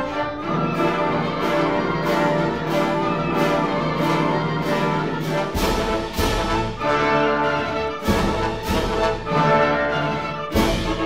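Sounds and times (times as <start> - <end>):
orchestral music with steady beat: 0.0 - 11.0.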